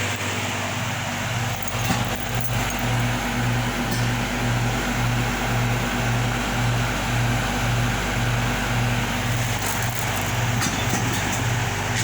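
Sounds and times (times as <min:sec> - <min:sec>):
air conditioner compressor hum: 0:00.0 - 0:12.0
condenser fan rushing: 0:00.0 - 0:12.0.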